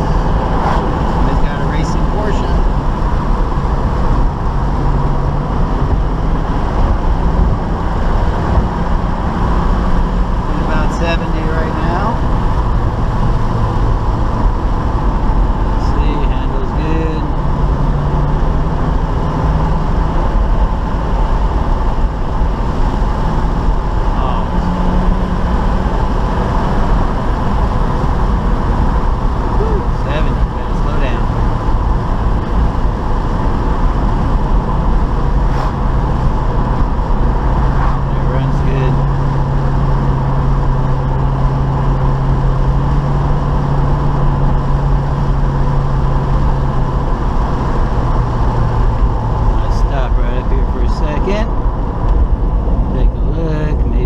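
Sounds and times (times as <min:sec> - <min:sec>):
car engine running: 0:00.0 - 0:54.0
road noise inside car: 0:00.0 - 0:54.0.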